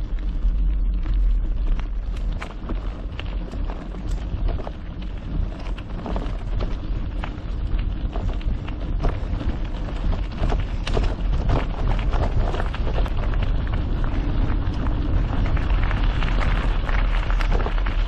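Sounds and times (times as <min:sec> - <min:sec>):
wind rumble on microphone: 0:00.0 - 0:18.0
bike rattling: 0:01.4 - 0:18.0
tyres crunching on gravel: 0:01.5 - 0:18.0.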